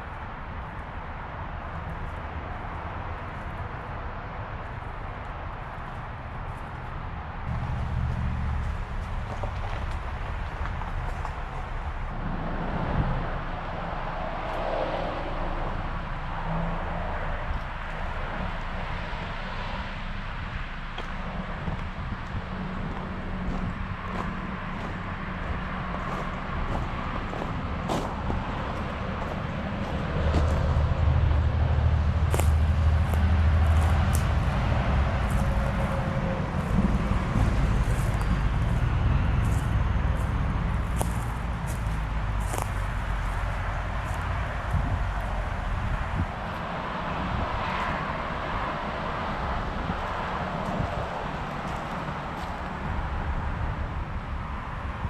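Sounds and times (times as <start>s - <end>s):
distant engine rumble: 7.5s - 55.0s.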